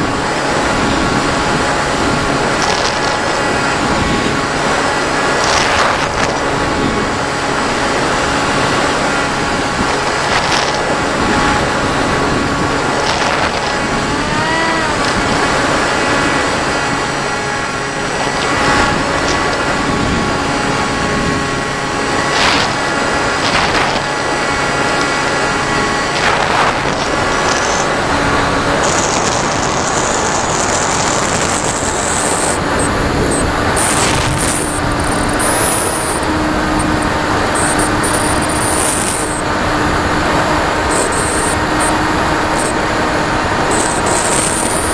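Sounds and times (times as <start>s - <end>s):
model aircraft motor and propeller: 0.0s - 44.9s
wind rushing over camera: 0.0s - 44.9s.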